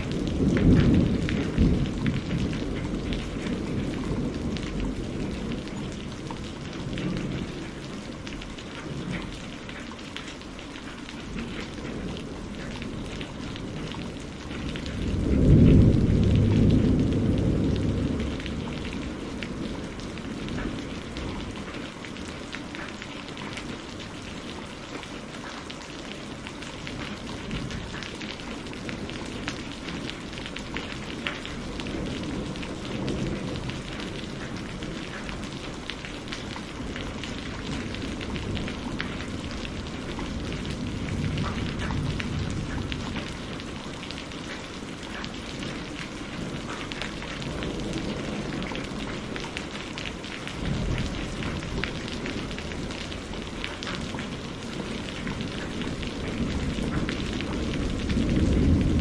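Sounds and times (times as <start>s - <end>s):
thunder rumbling: 0.0s - 10.1s, 10.8s - 59.0s
steady rain with ticking drops: 0.0s - 59.0s.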